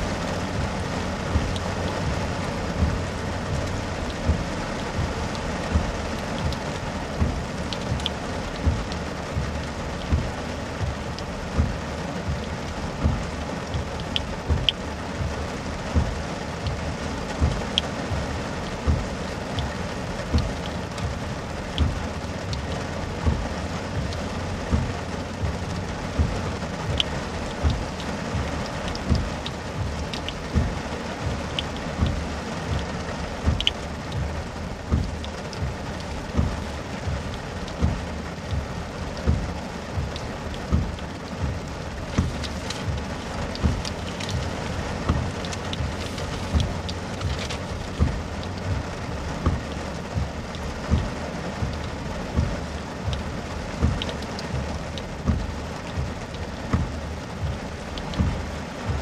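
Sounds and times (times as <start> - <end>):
rain on car windshield and roof: 0.0 - 59.0
windshield wipers thumping: 0.0 - 59.0.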